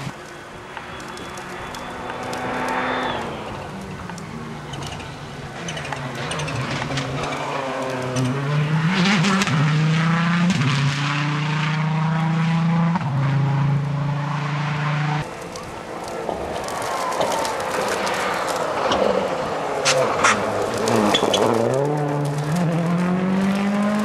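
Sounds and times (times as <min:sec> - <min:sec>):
distant engine: 0:00.0 - 0:24.0
rally car engine at full throttle: 0:00.0 - 0:24.0.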